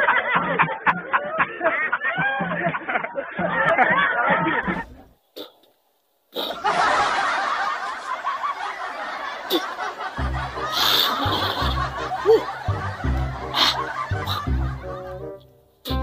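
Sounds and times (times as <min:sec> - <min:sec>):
many people laughing: 0:00.0 - 0:05.1, 0:06.5 - 0:16.0.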